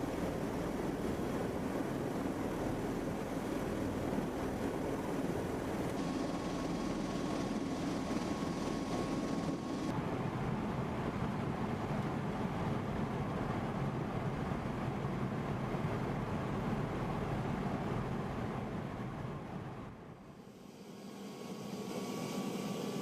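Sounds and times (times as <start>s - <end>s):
aircraft rotor rumble: 0.0s - 23.0s
thin steady whine: 0.0s - 23.0s.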